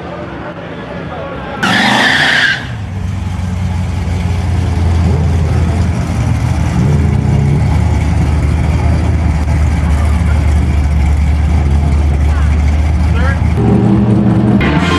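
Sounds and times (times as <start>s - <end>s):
car engine running: 2.7s - 14.9s.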